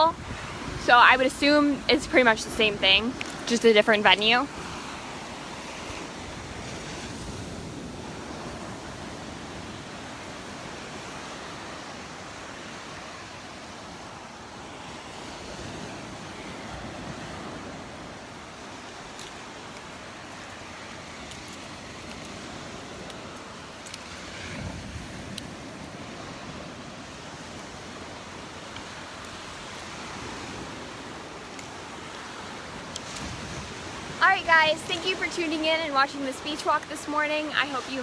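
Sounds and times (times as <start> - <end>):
surf washing onto beach: 0.0 - 38.0
wind: 0.0 - 38.0.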